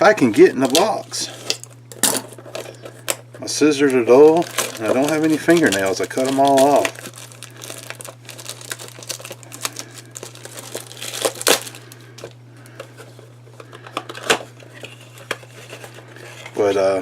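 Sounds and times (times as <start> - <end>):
packaging crinkling and tearing: 0.3 - 16.7.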